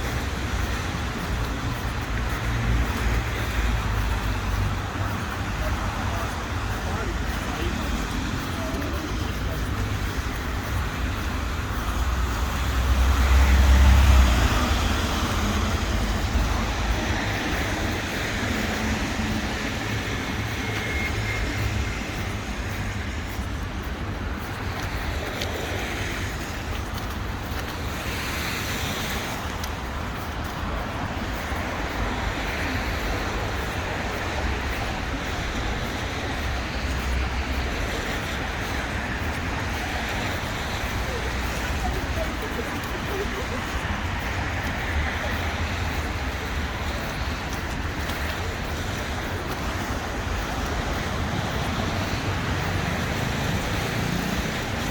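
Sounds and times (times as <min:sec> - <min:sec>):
passing cars humming: 0:00.0 - 0:54.9.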